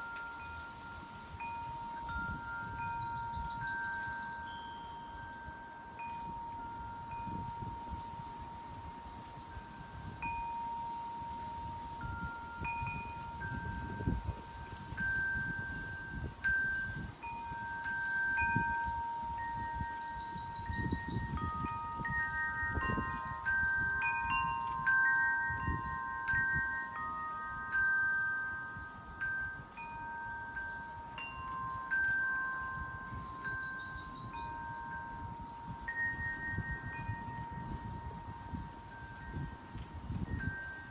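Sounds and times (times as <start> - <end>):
rumble of wind gusts: 0.0 - 40.9
wind chimes ringing: 0.0 - 40.9.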